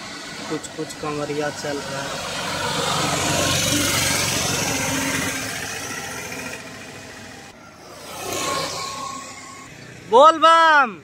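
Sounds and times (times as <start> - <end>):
auto-rickshaw engine passing: 0.0 - 10.6
roadside traffic: 0.0 - 11.0.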